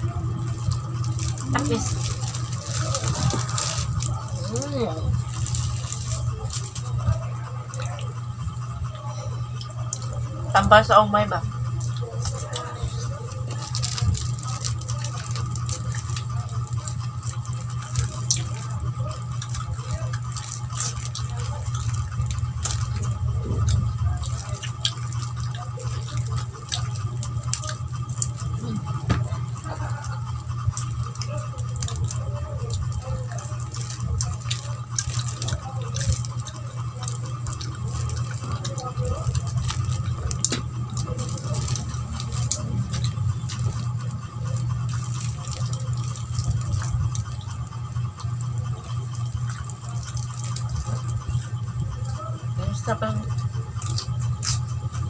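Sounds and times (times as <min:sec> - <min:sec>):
low hum: 0:00.0 - 0:55.0
person chewing: 0:00.2 - 0:08.2, 0:11.7 - 0:52.1, 0:53.6 - 0:55.0.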